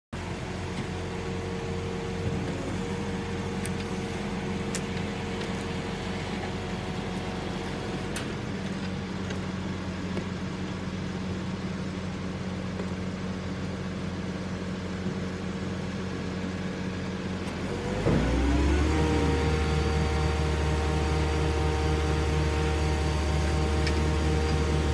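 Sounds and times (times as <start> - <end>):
diesel truck engine running: 0.2 - 24.9
hydraulics humming: 0.2 - 24.9.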